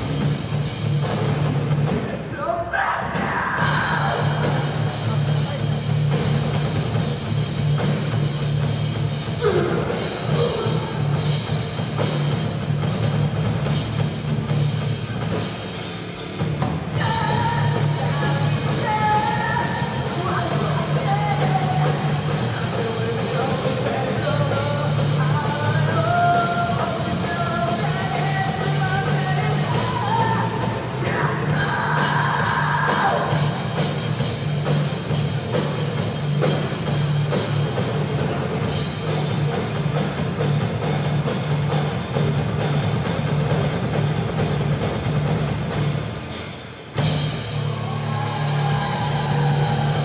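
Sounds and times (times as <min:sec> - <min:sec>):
live rock band playing: 0:00.0 - 0:02.3, 0:03.1 - 0:50.0
drums and cymbals: 0:00.0 - 0:50.0.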